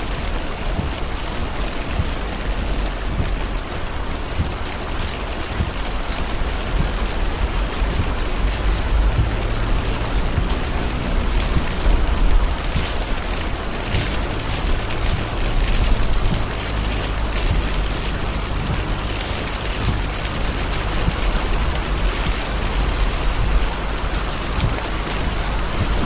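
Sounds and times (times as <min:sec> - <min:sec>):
heavy rain on car roof: 0:00.0 - 0:26.0
road and engine rumble: 0:00.0 - 0:26.0.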